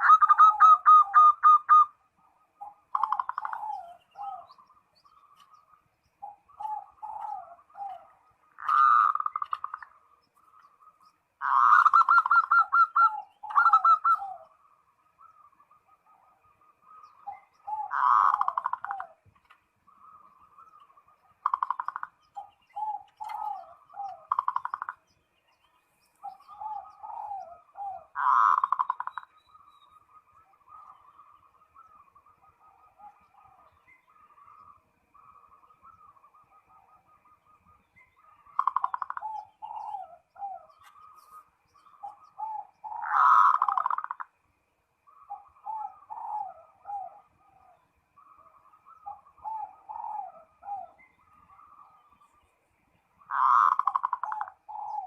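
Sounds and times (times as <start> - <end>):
dove cooing: 0.0 - 25.0, 26.2 - 29.4, 30.0 - 44.3, 45.1 - 52.3, 53.2 - 55.0.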